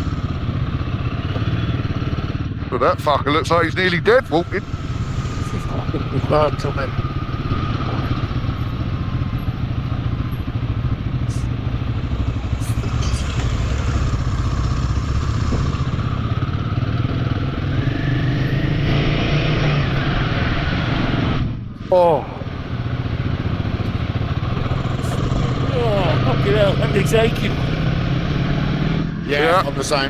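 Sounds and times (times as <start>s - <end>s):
motorcycle engine running: 0.0s - 30.0s
road and wind noise: 0.0s - 30.0s.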